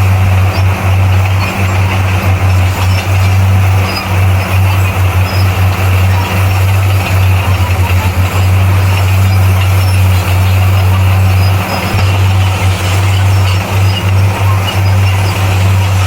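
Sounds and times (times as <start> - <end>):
bulldozer diesel engine droning: 0.0 - 16.0.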